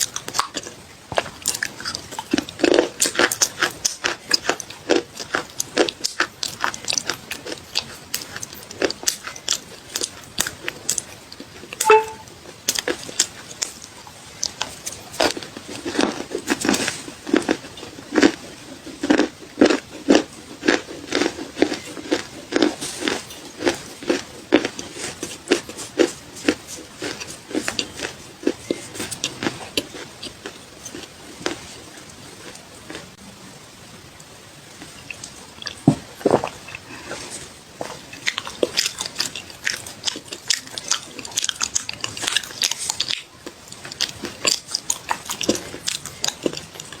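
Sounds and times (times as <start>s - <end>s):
crunching and chewing clay: 0.0s - 11.8s, 12.6s - 33.2s, 35.1s - 47.0s.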